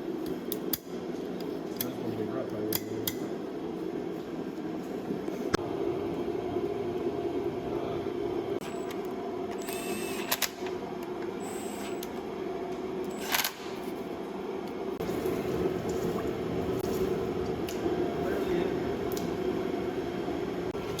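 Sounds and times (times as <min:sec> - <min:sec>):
workshop hum: 0:00.0 - 0:21.0.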